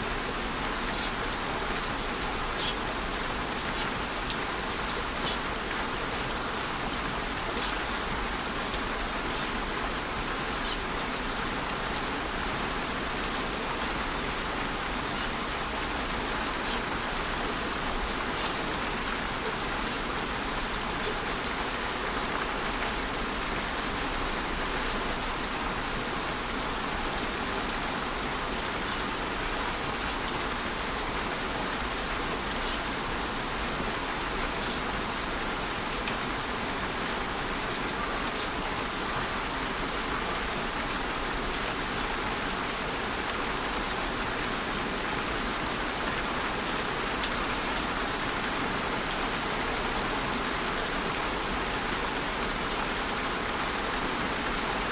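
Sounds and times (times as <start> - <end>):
steady rainfall hiss: 0.0 - 54.9.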